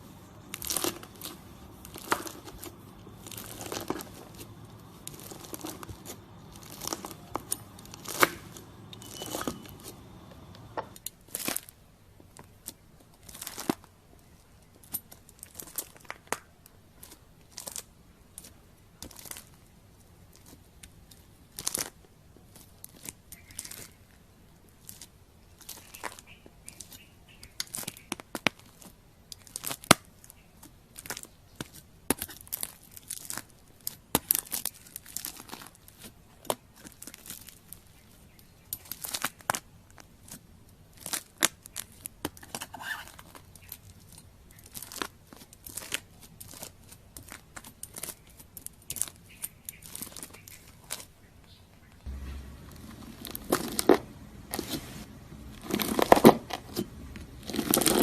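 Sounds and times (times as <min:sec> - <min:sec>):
crunchy slime crackling under knife: 0:00.0 - 0:13.9, 0:14.7 - 0:24.1, 0:24.7 - 0:51.2, 0:52.0 - 0:58.0.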